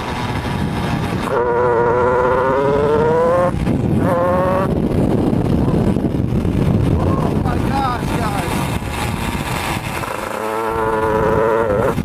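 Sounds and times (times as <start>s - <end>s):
two-stroke kart engine revving: 0.0s - 6.0s, 8.0s - 12.0s
steady rushing noise: 0.0s - 12.0s.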